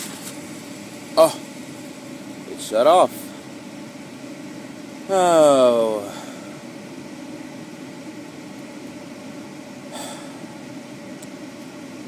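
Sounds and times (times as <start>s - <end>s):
fan motor humming: 0.0s - 12.0s.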